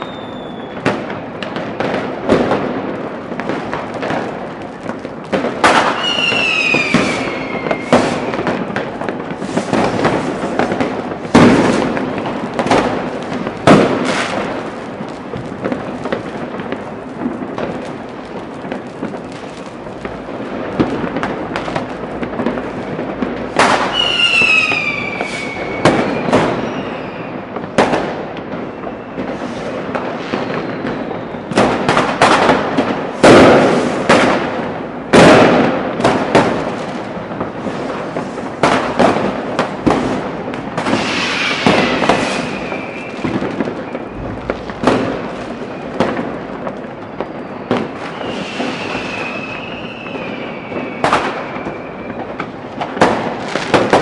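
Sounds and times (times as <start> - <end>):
whistling rockets: 0.0 - 14.7, 15.3 - 36.7, 37.4 - 54.0
firecrackers banging: 0.0 - 54.0.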